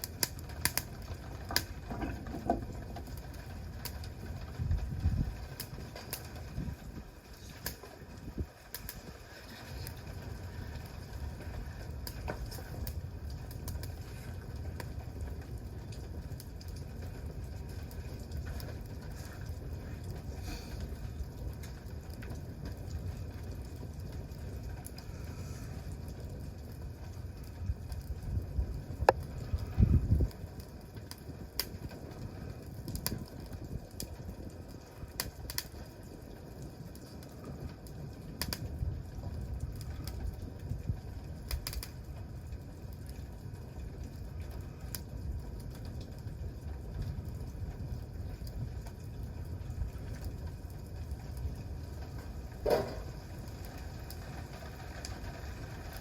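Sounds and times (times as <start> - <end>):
campfire crackling and popping: 0.0 - 56.0
low rumble of flame: 0.0 - 56.0.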